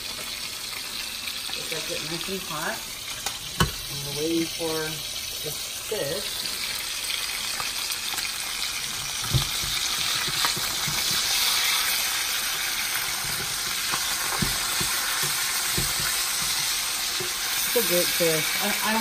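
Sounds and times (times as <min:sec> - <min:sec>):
fish fillets sizzling in oil: 0:00.0 - 0:19.0.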